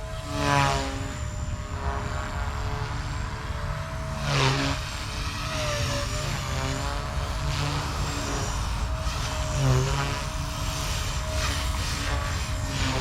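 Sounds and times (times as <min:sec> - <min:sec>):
rc helicopter motor whining: 0:00.0 - 0:13.0.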